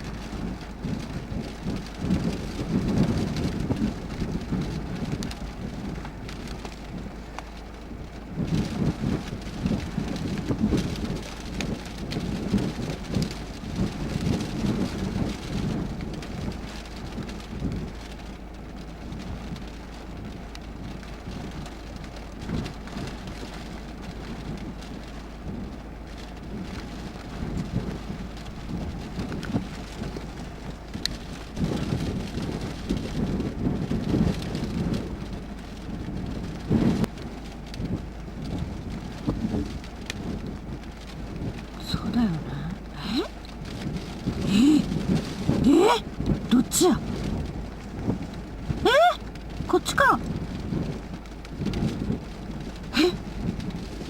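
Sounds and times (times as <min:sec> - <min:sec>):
low rumbling surges: 0:00.0 - 0:18.4, 0:19.0 - 0:54.0
heavy rain and wind: 0:00.0 - 0:54.0.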